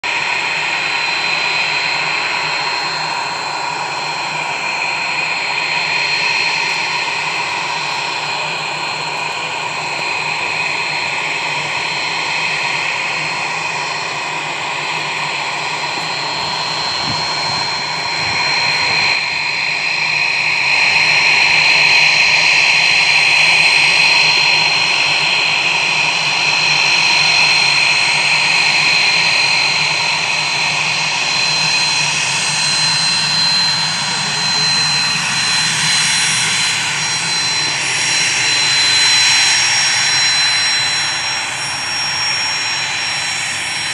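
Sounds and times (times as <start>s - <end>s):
jet engine whine and rush: 0.0s - 43.9s.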